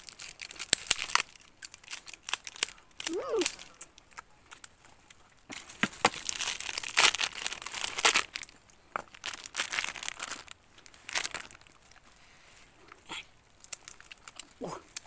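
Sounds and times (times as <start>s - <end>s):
plastic packet crinkling and tearing: 0.0s - 12.4s, 13.4s - 15.0s.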